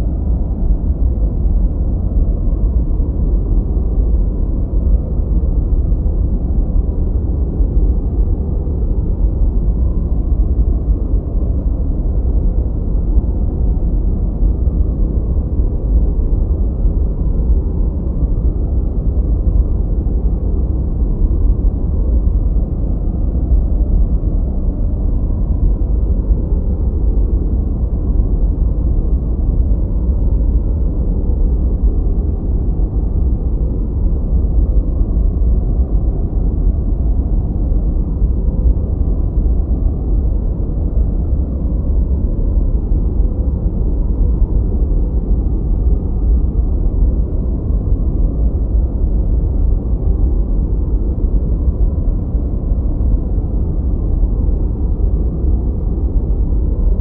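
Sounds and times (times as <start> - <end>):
deep rumbling brown noise: 0.0 - 57.0.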